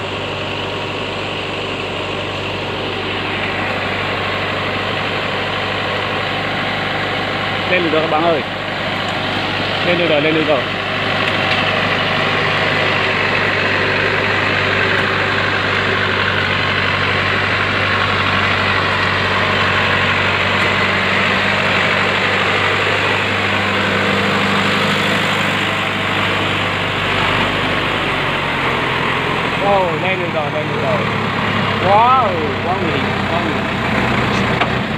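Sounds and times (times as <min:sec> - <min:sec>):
truck engine running: 0:00.0 - 0:34.9.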